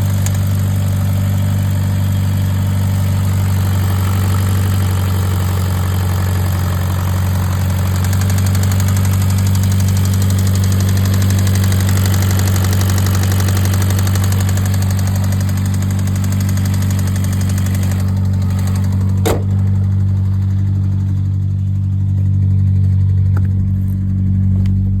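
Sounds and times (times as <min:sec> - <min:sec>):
car engine idling: 0:00.0 - 0:25.0
engine knocking tick: 0:00.0 - 0:25.0.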